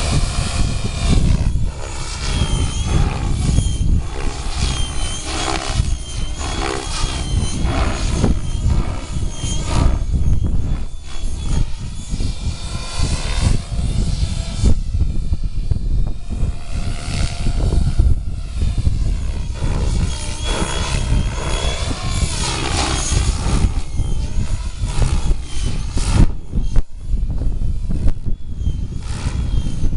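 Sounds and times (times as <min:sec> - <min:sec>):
model helicopter rotor whirring: 0:00.0 - 0:29.9.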